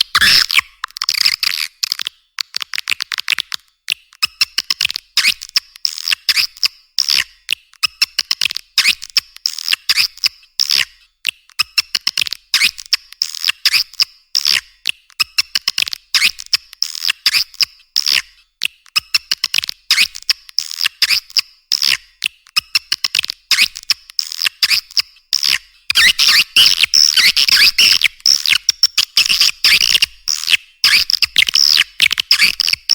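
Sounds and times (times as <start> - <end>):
swiftlet twittering clicks and chirps: 5.2 - 32.9.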